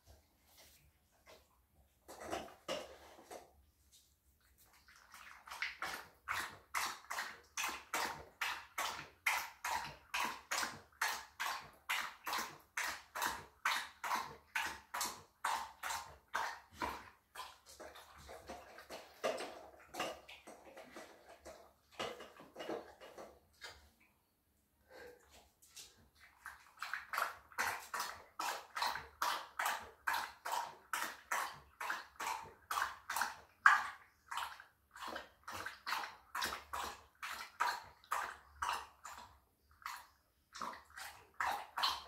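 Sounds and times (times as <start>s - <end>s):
dog lapping water from bowl: 0.0s - 24.1s, 24.8s - 42.0s.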